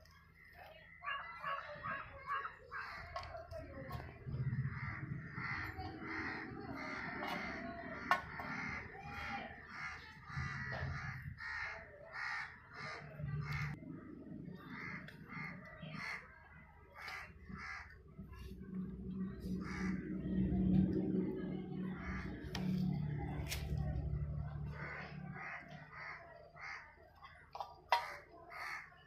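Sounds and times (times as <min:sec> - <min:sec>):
crows cawing: 0:00.4 - 0:13.8, 0:14.5 - 0:18.5, 0:19.5 - 0:20.2, 0:21.9 - 0:22.8, 0:24.5 - 0:29.0.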